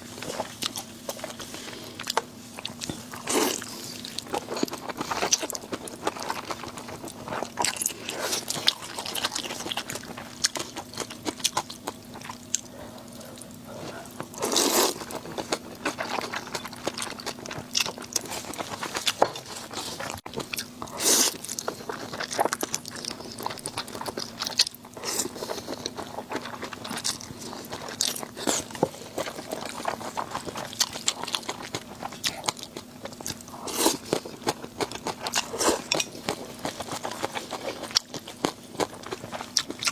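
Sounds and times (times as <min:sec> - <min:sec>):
person crunching and chewing: 0:00.1 - 0:39.9.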